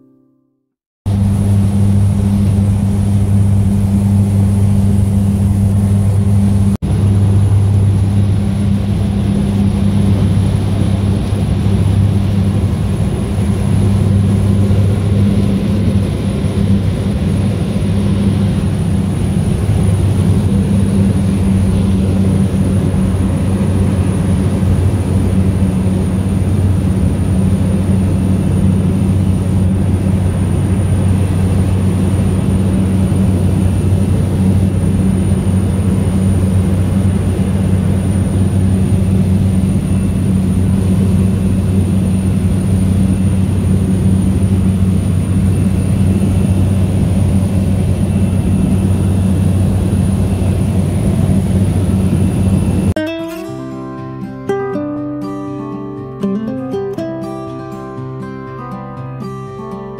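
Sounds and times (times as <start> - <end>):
propeller engine drone in cabin: 1.1 - 54.3.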